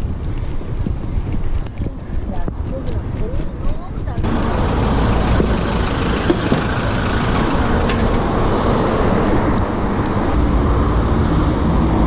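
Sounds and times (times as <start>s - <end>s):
wind noise on microphone: 0.0s - 12.0s
road traffic rushing: 1.6s - 12.0s.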